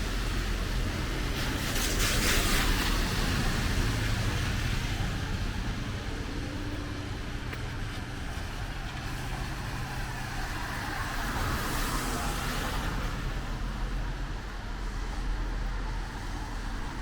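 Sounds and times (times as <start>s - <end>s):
vehicle tyres hissing on wet road: 0.0s - 17.0s.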